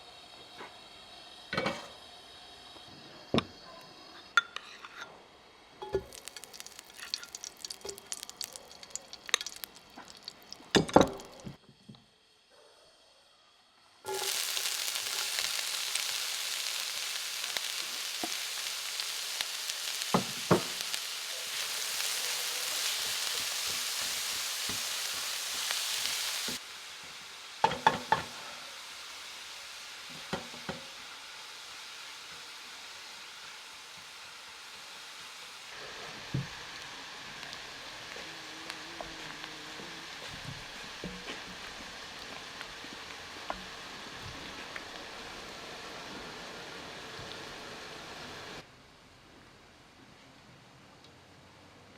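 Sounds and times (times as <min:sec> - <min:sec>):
food sizzling in hot oil: 0:00.0 - 0:03.4, 0:04.0 - 0:11.6, 0:14.0 - 0:48.6.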